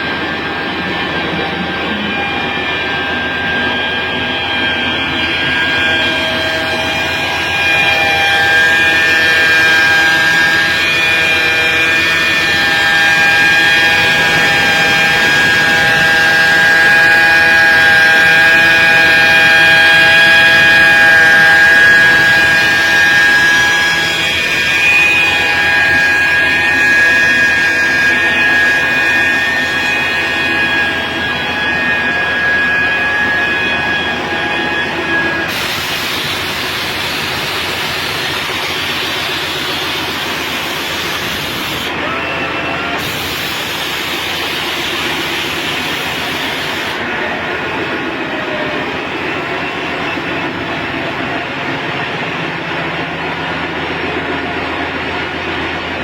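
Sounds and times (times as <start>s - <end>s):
machinery whining: 0.0s - 56.0s.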